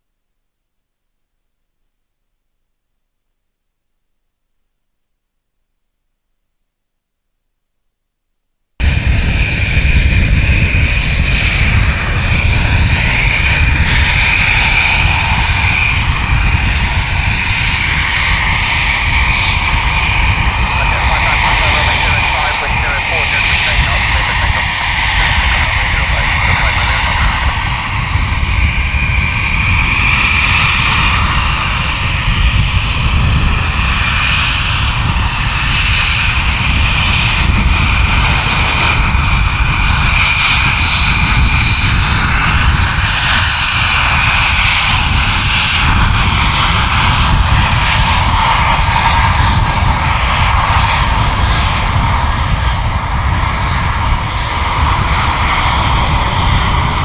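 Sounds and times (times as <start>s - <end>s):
aircraft engines rumbling: 8.8s - 57.0s
high engine whine: 8.8s - 57.0s.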